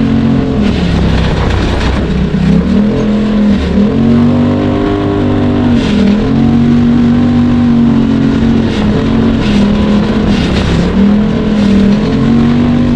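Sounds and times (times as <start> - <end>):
vehicle engine revving high: 0.0 - 12.9.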